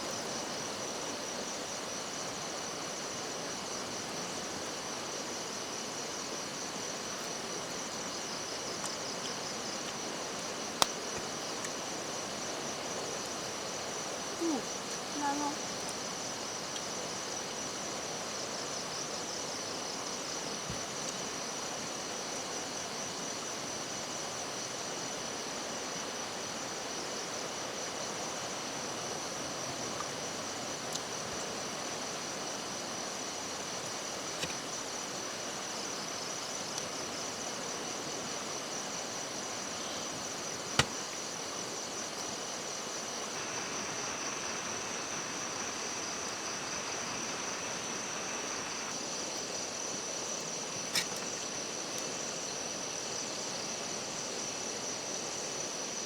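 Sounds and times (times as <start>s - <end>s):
insects trilling: 0.0s - 56.0s
running water hiss: 0.0s - 56.0s.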